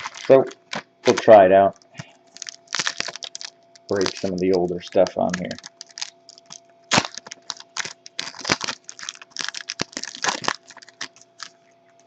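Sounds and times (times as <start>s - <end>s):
wrapper tearing and crinkling: 0.0s - 1.4s, 2.3s - 11.6s.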